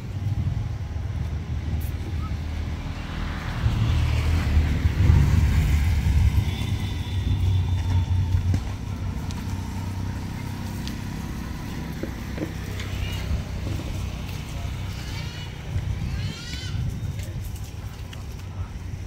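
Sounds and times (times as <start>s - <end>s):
passing vehicle engine rumble: 0.0s - 19.0s.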